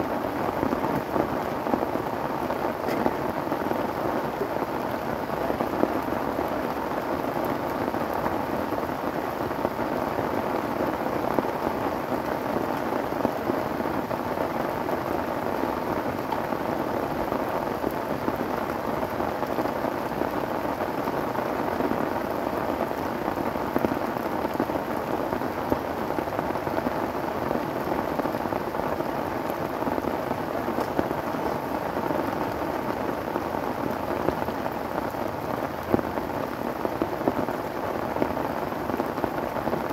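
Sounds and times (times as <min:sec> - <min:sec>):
heavy rain on a tarp: 0:00.0 - 0:39.9.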